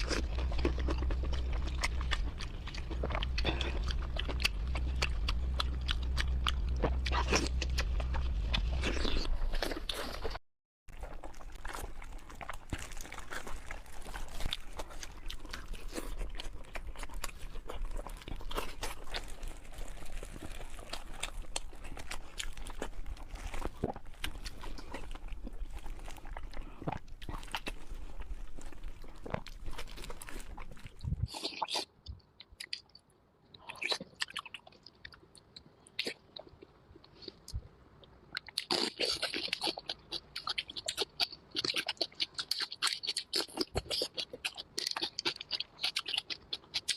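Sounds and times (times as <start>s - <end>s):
steady low background hum: 0.0s - 10.4s, 11.0s - 46.9s
person chewing and crunching food: 0.0s - 46.9s.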